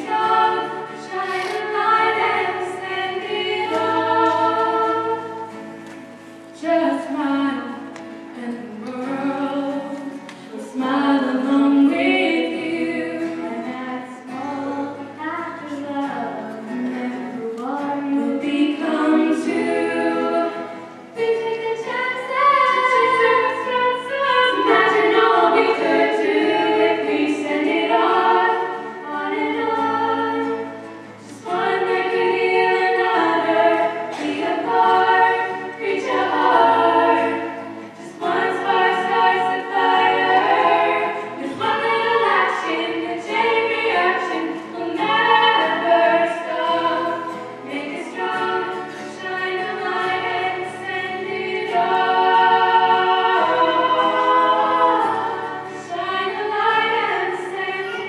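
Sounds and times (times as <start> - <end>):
strummed acoustic guitar: 0.0 - 58.0
women singing in harmony: 0.0 - 58.0.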